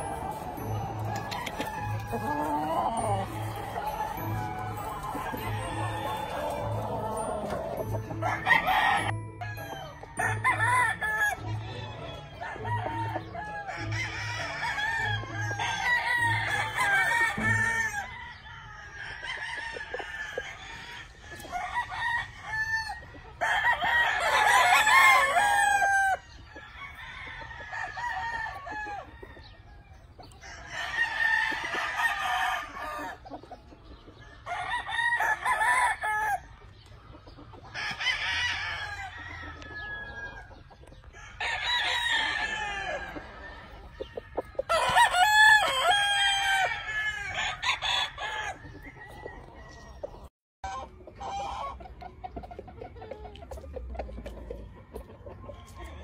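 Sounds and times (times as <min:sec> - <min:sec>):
rooster clucking: 0:00.0 - 0:29.4, 0:37.2 - 0:56.0
roosters crowing: 0:00.0 - 0:36.8, 0:37.6 - 0:52.0, 0:53.6 - 0:56.0.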